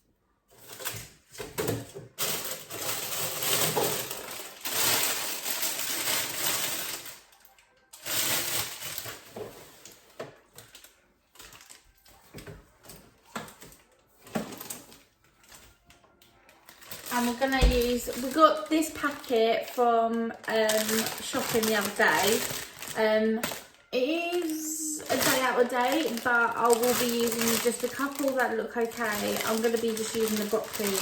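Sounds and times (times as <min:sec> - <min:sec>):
plastic packaging rustling: 0:00.5 - 0:31.0.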